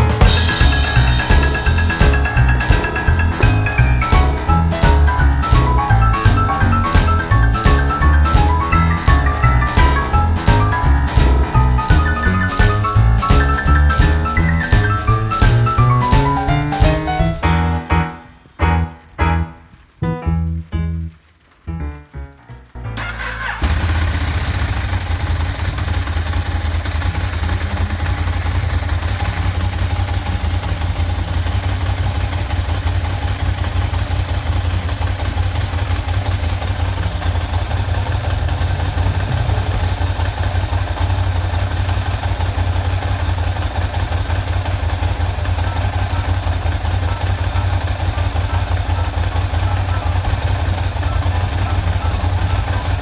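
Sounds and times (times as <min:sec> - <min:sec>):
motorcycle engine idling: 0:00.0 - 0:17.8, 0:23.0 - 0:53.0.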